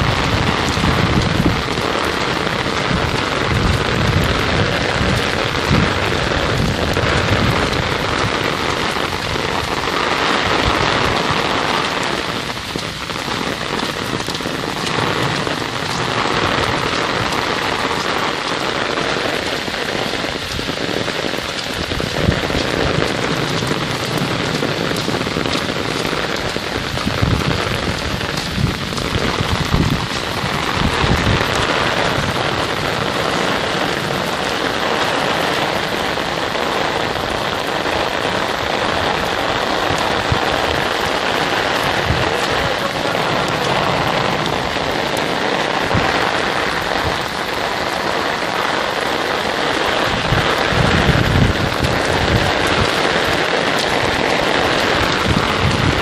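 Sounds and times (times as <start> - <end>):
torrential rain on road: 0.0 - 56.0.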